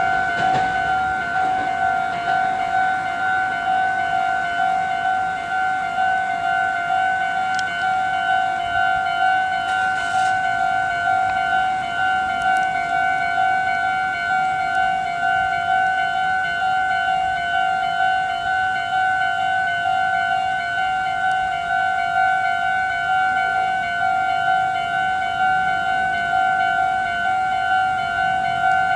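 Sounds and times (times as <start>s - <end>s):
level crossing warning bell: 0.0s - 28.9s.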